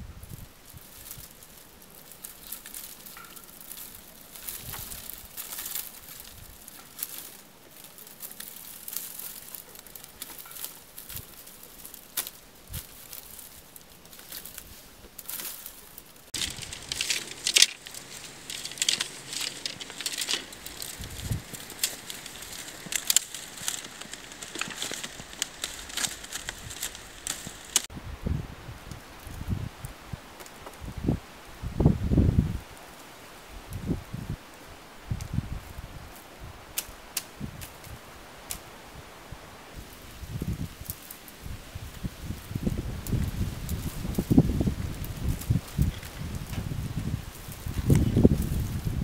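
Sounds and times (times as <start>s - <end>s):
dry grass rustling and crackling: 0.0s - 49.0s.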